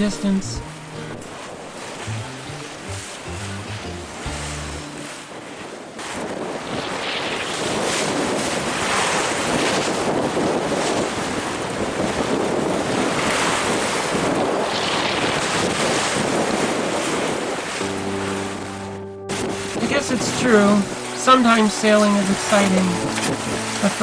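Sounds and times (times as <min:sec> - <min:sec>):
waves splashing against boat: 0:00.0 - 0:24.0
wind buffeting microphone: 0:01.3 - 0:21.2, 0:22.3 - 0:24.0.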